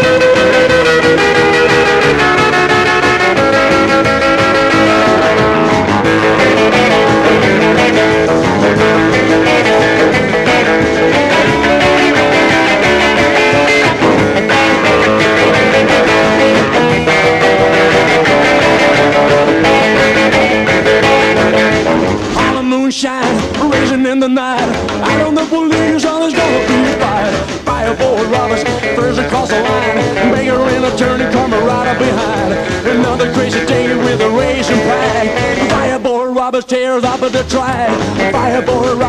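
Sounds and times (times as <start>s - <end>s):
bass and drums: 0.0s - 39.0s
electric guitar: 0.0s - 39.0s.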